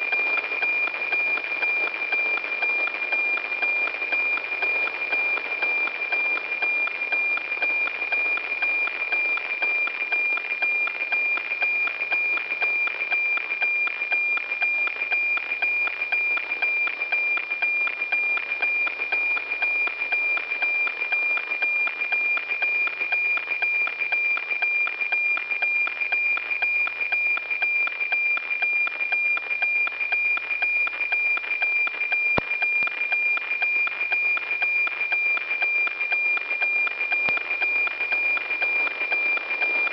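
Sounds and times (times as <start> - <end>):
satellite signal tone with ticking: 0.0 - 39.9.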